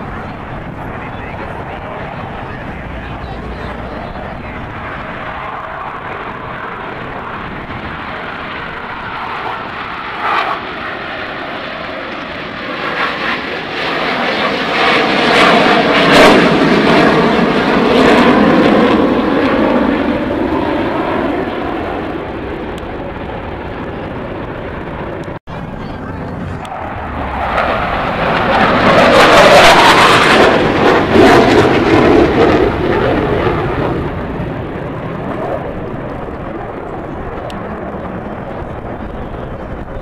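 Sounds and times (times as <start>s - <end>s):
aircraft engines flying overhead: 0.0s - 40.0s.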